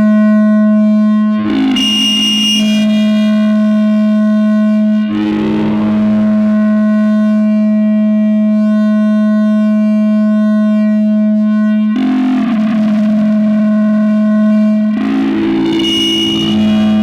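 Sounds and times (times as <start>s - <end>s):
electronic feedback drone: 0.0s - 17.0s.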